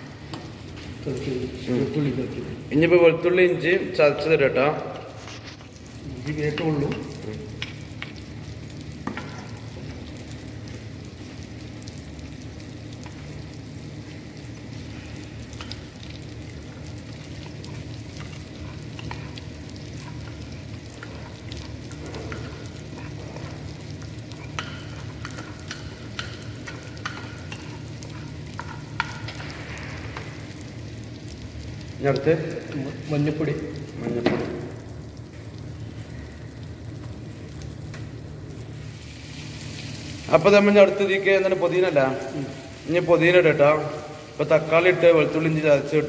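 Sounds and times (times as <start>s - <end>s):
pot of water heating: 0.0s - 46.0s.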